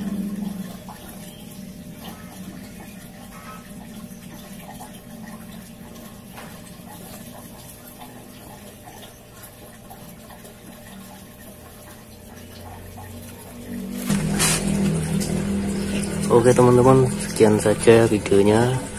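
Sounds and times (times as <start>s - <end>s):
low steady hum: 0.0s - 18.9s
water running into aquarium: 0.0s - 18.9s.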